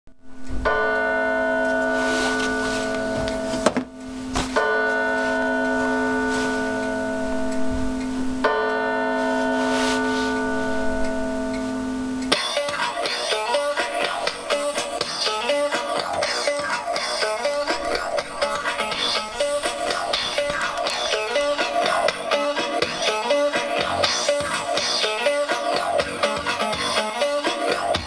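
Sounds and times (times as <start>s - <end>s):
ringing chord through speakers: 0.3s - 28.0s
guitar music: 0.8s - 28.0s.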